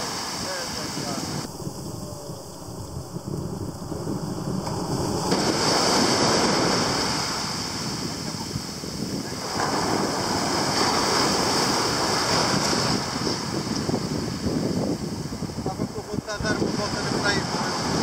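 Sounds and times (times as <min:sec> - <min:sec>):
small waves breaking on shore: 0:00.0 - 0:15.4
wind buffeting microphone: 0:00.0 - 0:18.0.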